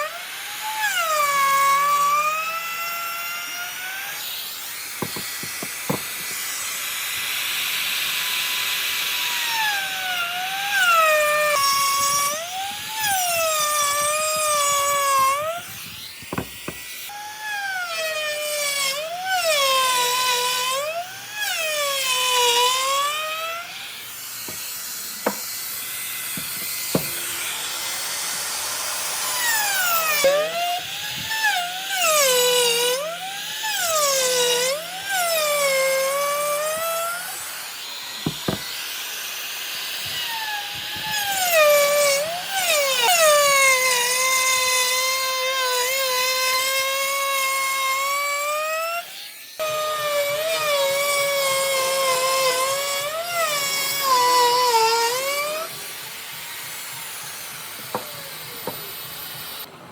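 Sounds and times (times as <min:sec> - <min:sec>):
power tool motor whining: 0:00.0 - 0:59.7.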